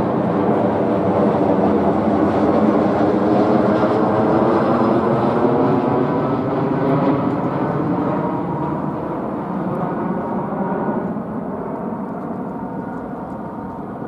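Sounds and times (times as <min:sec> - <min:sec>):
jet airliner droning overhead: 0:00.0 - 0:14.0.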